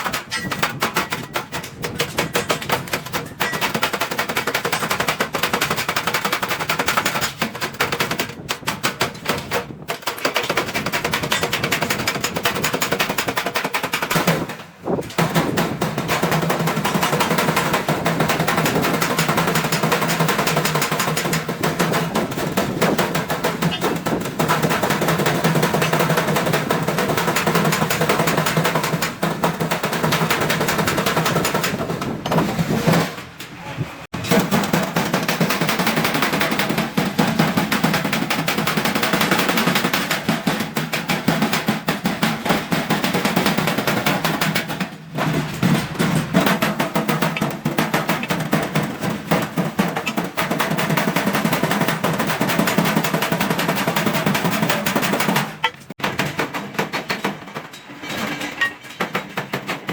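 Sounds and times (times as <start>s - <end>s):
hammering on steel sheet: 0.0s - 33.3s, 34.1s - 57.6s.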